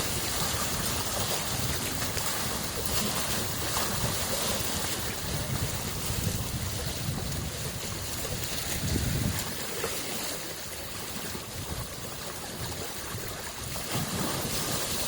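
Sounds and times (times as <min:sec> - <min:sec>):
lake waves washing onto shore: 0:00.0 - 0:15.0.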